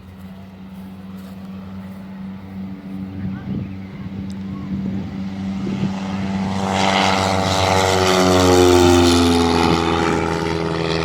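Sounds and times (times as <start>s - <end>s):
propeller airplane passing by: 0.0s - 11.0s.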